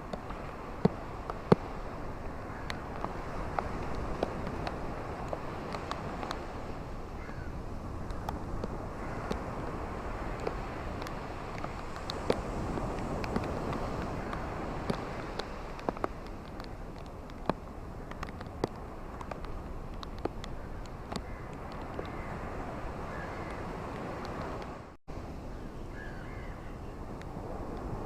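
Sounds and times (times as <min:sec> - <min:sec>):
ocean waves washing on beach: 0:00.0 - 0:28.0.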